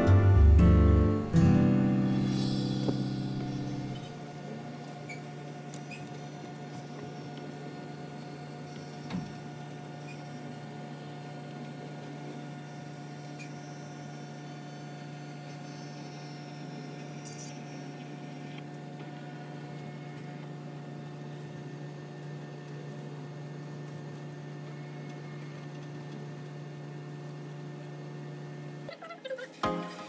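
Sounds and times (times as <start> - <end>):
drum motor humming: 0.0 - 28.9.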